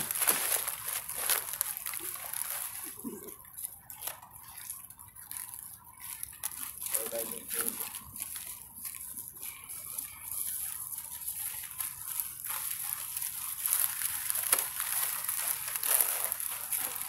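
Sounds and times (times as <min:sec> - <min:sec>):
footsteps on dry leaves: 0:00.0 - 0:17.0.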